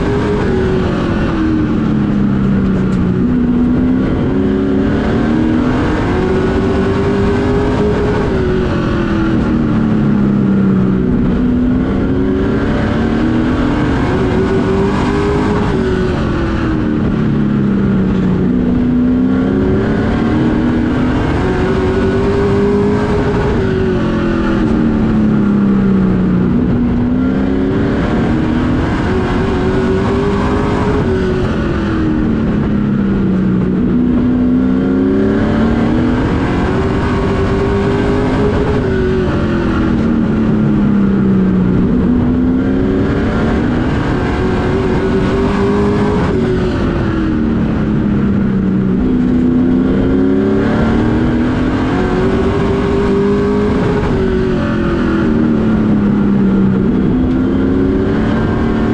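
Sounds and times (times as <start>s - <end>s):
race truck engine revving: 0.0s - 58.9s.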